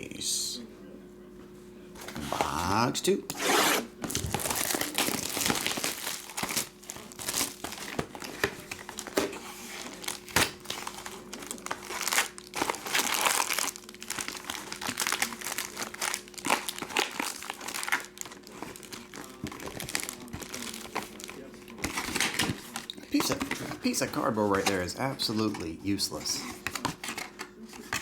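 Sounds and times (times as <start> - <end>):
cardboard rustling: 2.0 - 28.0
plastic wrapping crinkling: 4.0 - 27.3.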